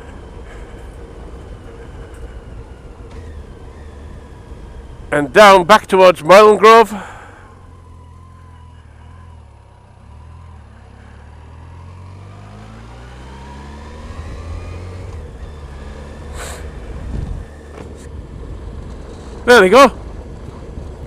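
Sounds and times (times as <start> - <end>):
motorcycle engine accelerating: 0.0 - 5.4, 7.0 - 21.0.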